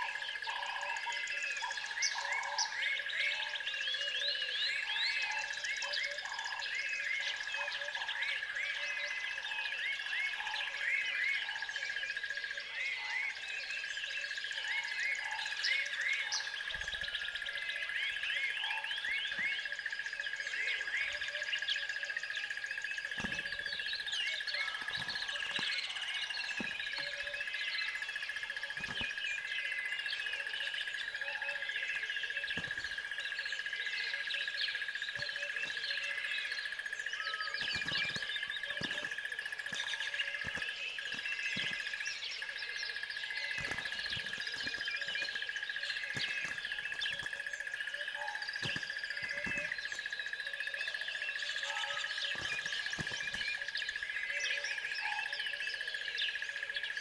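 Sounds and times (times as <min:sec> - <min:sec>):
continuous high tone: 0:00.0 - 0:57.0
songbirds chirping and trilling: 0:00.0 - 0:57.0.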